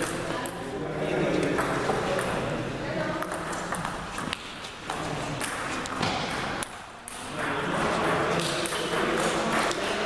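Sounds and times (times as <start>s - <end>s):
voices in a hall: 0.0s - 10.0s.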